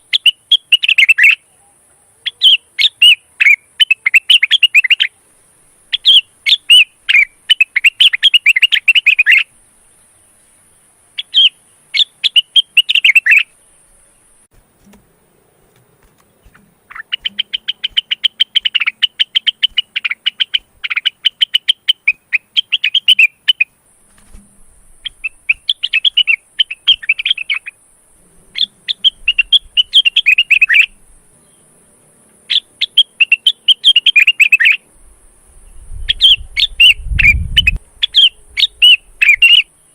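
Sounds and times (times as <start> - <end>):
bird singing rapid chirps: 0.0 - 1.6, 2.2 - 5.2, 5.9 - 14.5, 16.2 - 24.4, 25.0 - 27.8, 28.5 - 31.8, 32.4 - 34.9, 35.6 - 39.9.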